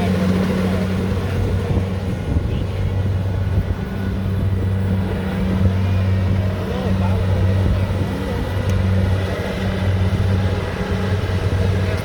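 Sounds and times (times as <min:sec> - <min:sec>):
harvester engine humming: 0:00.0 - 0:12.0.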